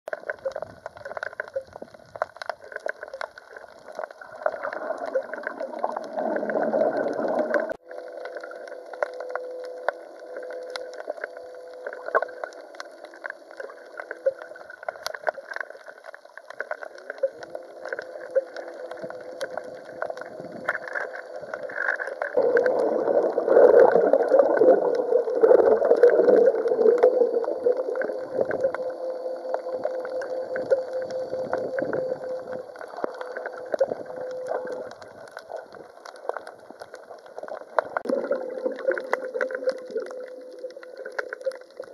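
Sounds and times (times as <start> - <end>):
faint steady hum: 0.1 - 41.9.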